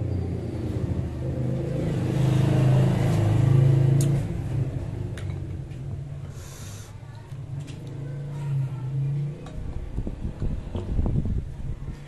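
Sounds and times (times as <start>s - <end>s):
vehicle engine passing: 0.0s - 11.4s.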